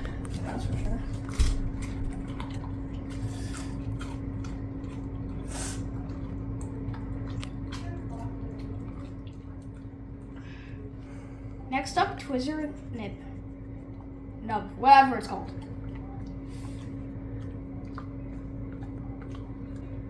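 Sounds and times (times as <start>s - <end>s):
dog chewing and licking: 0.0s - 10.8s, 11.9s - 20.0s.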